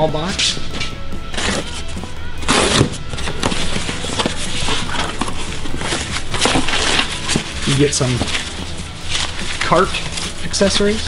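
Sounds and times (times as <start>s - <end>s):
plastic wrapping rustling: 0.0s - 11.0s
packing tape tearing: 0.5s - 11.0s.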